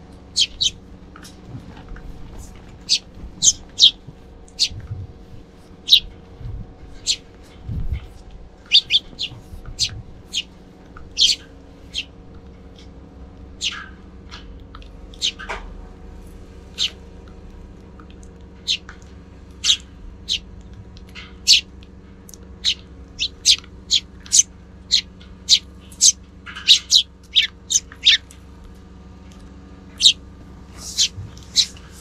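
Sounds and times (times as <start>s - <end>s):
faint low hum: 0.0s - 32.0s
sparrows chirping: 0.0s - 32.0s.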